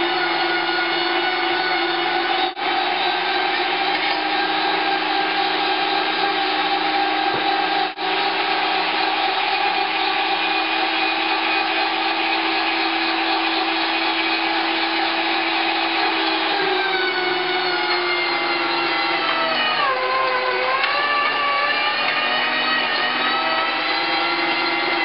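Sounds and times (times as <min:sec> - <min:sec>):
meat grinder motor running: 0:00.0 - 0:25.0.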